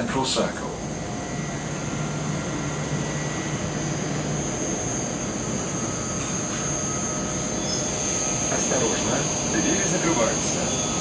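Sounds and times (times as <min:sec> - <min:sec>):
high whine from train equipment: 0:00.0 - 0:11.0
steady hum inside train car: 0:00.0 - 0:11.0.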